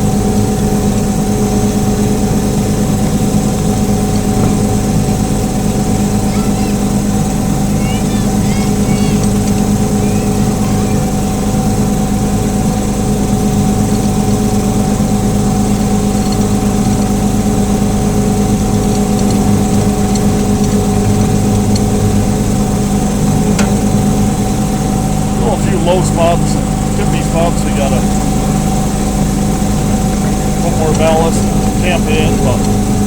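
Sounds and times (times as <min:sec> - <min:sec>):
constant whine: 0:00.0 - 0:33.0
locomotive engine droning: 0:00.0 - 0:33.0.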